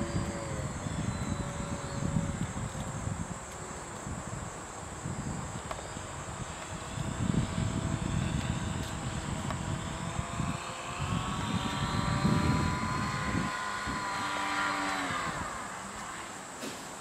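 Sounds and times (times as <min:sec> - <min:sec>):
electric model plane motor whine: 0:00.0 - 0:16.6
wind noise on microphone: 0:00.0 - 0:17.0.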